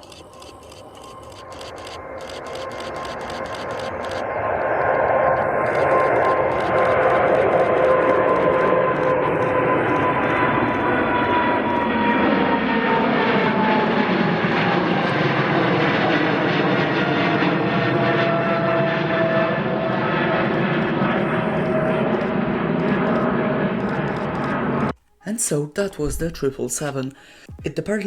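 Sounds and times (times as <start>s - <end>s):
jet engines roaring at takeoff: 0.0s - 25.0s.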